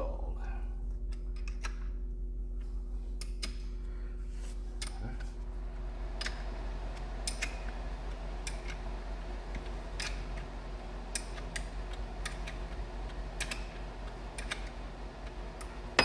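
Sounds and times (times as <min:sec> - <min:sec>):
steady low hum: 0:02.0 - 0:16.0.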